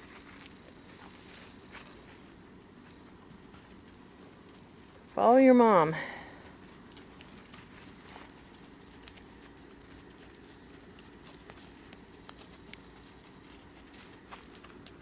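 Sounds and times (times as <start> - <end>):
hooves clopping: 0.0 - 15.0.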